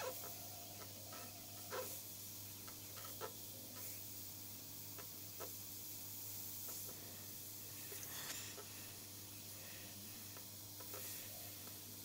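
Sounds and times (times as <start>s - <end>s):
airbrush hissing: 0.0s - 12.0s.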